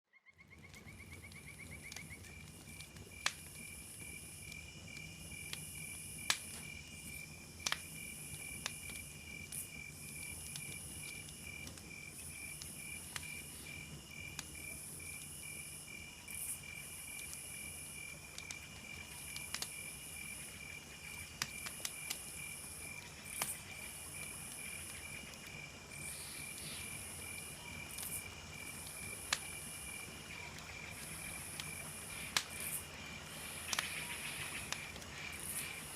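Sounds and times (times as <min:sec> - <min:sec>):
campfire popping and crackling: 0:00.3 - 0:35.9
crickets chirping: 0:00.6 - 0:35.9.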